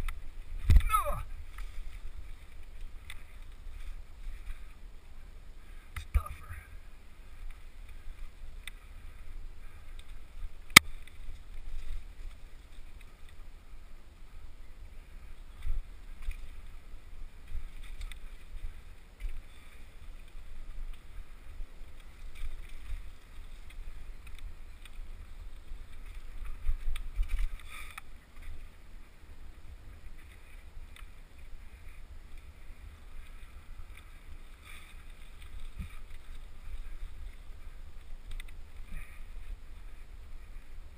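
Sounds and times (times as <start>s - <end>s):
bike rolling on dirt trail: 0.0s - 40.9s.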